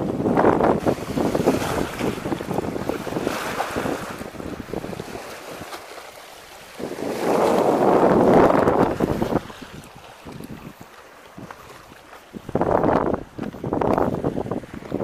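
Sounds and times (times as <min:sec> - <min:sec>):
choppy water and waves: 0:00.0 - 0:15.0
wind buffeting microphone: 0:00.0 - 0:15.0.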